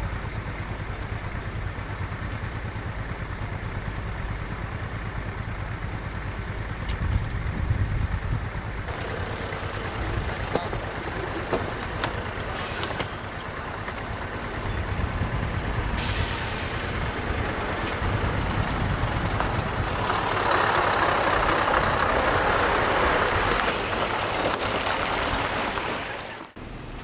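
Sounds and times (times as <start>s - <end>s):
heavy lorry running: 0.0s - 27.0s.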